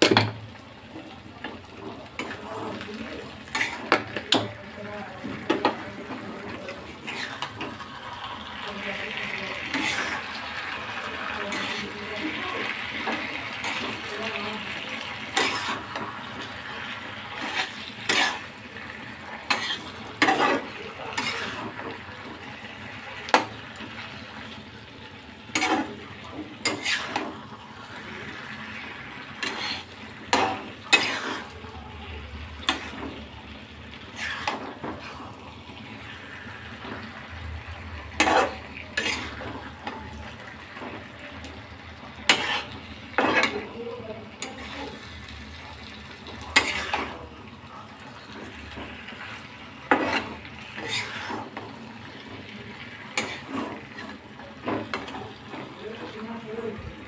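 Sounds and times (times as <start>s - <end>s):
chicken sizzling in pan: 0.0s - 57.0s
metal spatula scraping pan: 1.4s - 24.6s, 25.4s - 47.2s, 48.0s - 56.2s.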